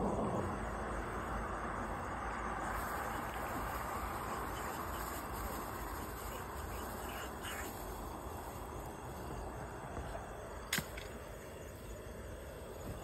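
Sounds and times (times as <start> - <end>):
hiss of insects in grassland: 0.0 - 13.0.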